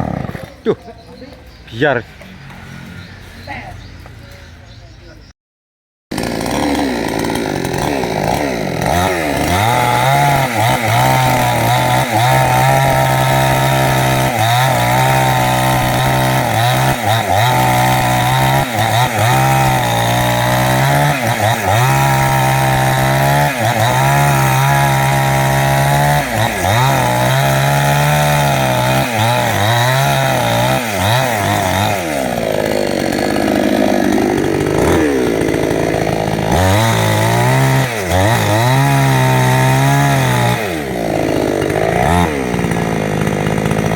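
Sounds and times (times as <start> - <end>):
chainsaw cutting wood: 0.0 - 0.8, 6.1 - 43.9.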